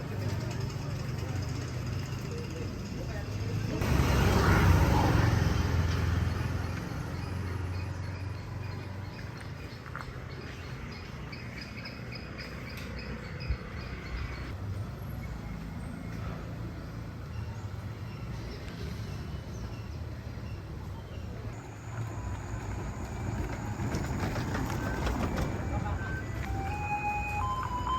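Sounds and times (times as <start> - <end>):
distant traffic rumble: 0.0 - 27.9.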